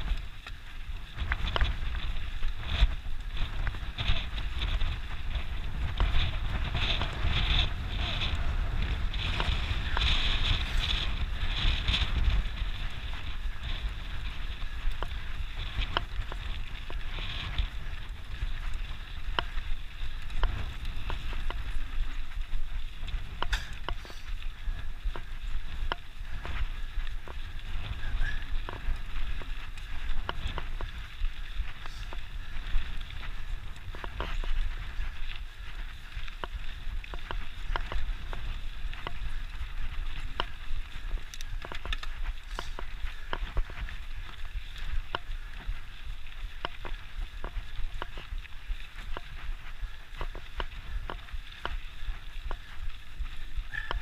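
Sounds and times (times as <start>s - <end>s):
bike clicks and rattles: 0.0s - 54.0s
tyres on loose ground: 0.0s - 54.0s
wind rumbling on microphone: 0.0s - 54.0s.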